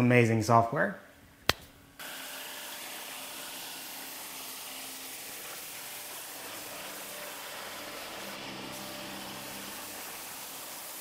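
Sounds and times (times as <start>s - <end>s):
plasma cutter hissing: 2.0s - 11.0s.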